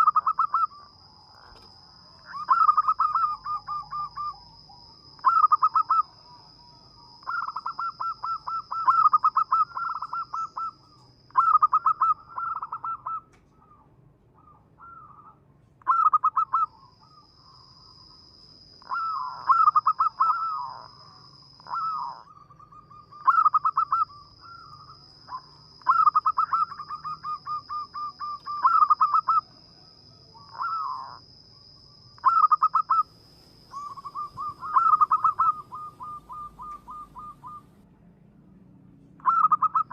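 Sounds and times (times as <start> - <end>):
dove cooing: 0.0 - 17.3, 18.8 - 31.2, 32.2 - 33.1, 33.7 - 37.8, 39.2 - 39.9.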